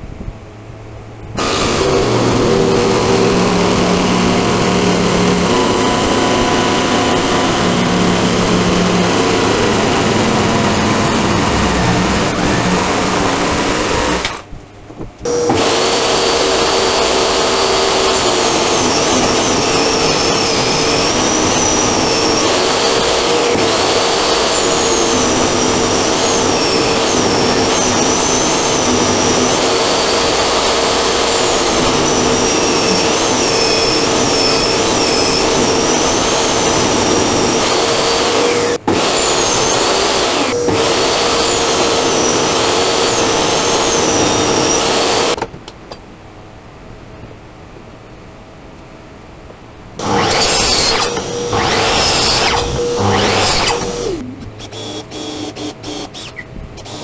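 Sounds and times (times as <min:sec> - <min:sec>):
table saw ripping a board: 0:01.4 - 0:14.5, 0:15.3 - 0:45.4, 0:50.0 - 0:54.2.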